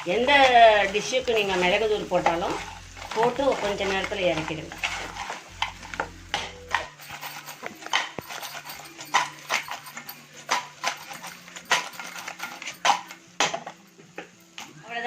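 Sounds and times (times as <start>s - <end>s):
crab shells scraping in a pan: 0.0s - 13.3s.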